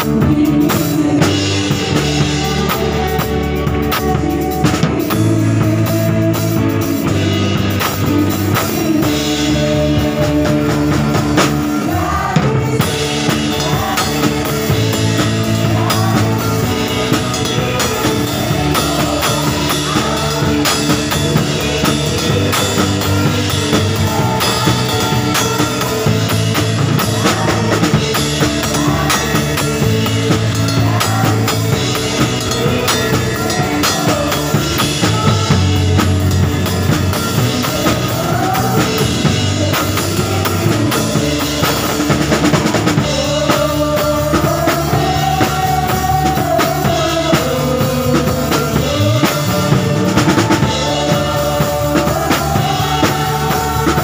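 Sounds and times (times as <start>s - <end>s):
acoustic drum kit: 0.0s - 54.0s
person singing: 0.0s - 54.0s
recorded worship band track: 0.0s - 54.0s.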